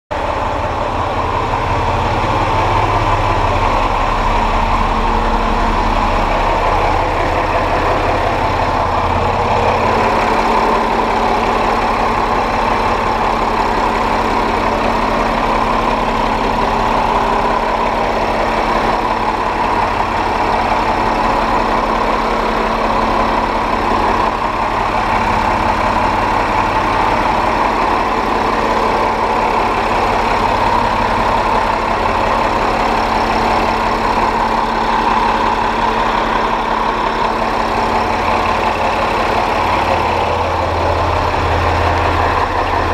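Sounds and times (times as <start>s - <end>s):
boat engine machinery humming: 0.1s - 42.9s.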